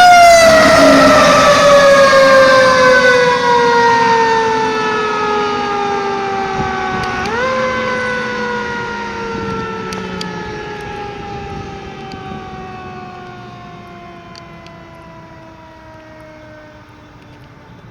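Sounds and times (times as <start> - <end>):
fire truck siren wailing: 0.0 - 17.9.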